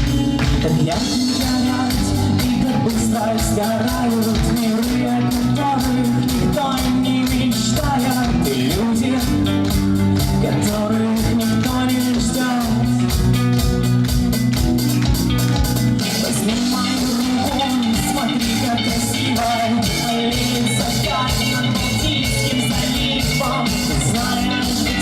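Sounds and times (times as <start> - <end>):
person singing: 0.0 - 13.7, 16.0 - 25.0
bass and guitar: 0.0 - 25.0
drum beat: 0.0 - 25.0.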